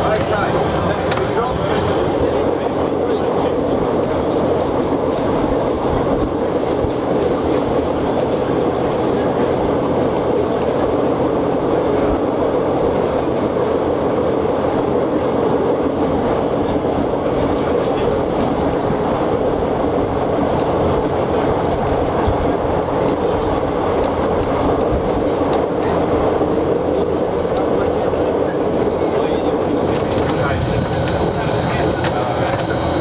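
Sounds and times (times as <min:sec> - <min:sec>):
diesel engine drone: 0:00.0 - 0:33.0
train wheels rumbling on rails: 0:00.0 - 0:33.0.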